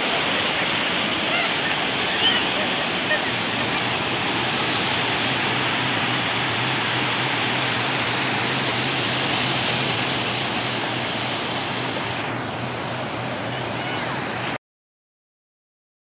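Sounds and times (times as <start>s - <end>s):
sea waves breaking on shore: 0.0s - 14.6s.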